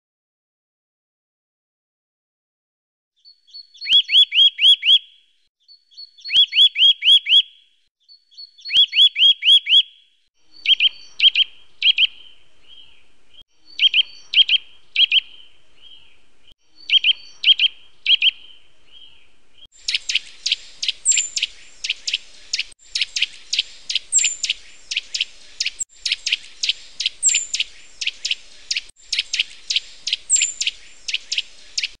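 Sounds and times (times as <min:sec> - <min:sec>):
bird singing whistled notes: 0:03.2 - 0:32.0.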